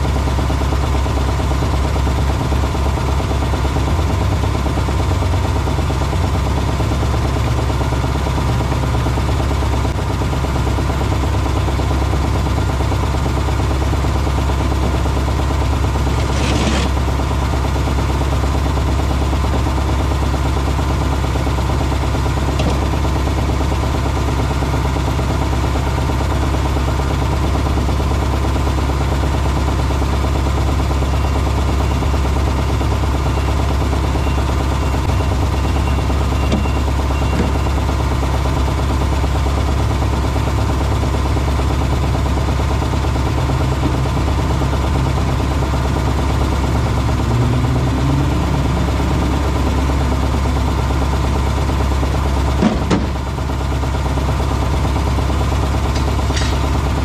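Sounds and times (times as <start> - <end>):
motor droning steadily: 0.0 - 57.0.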